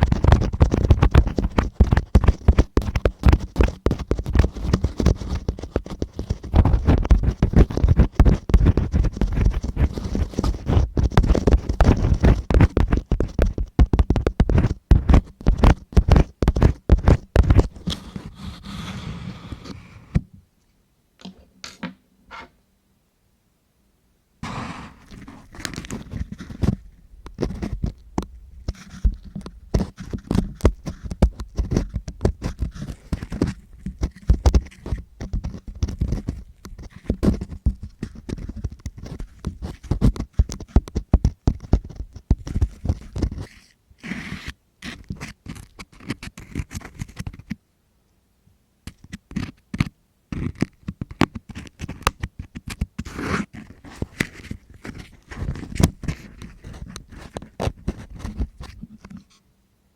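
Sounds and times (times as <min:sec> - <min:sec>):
tool scratching on microphone: 0:00.0 - 0:20.3, 0:24.4 - 0:28.0, 0:28.7 - 0:47.5, 0:48.9 - 0:59.4.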